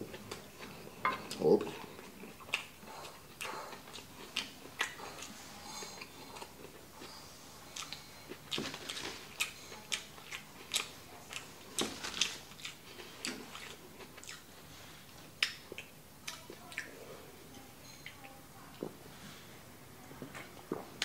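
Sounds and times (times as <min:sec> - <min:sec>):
person chewing with wet clicks: 0:00.0 - 0:19.0, 0:20.2 - 0:21.0.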